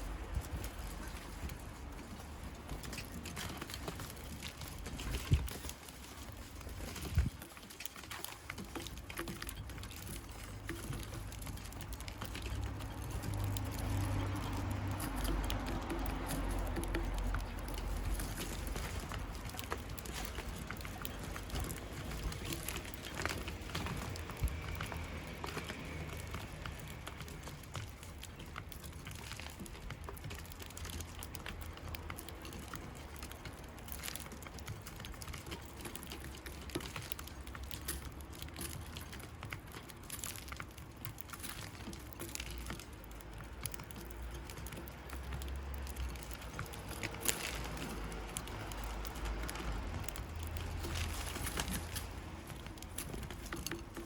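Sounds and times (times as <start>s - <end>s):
birds pecking and hopping: 0.0s - 54.0s.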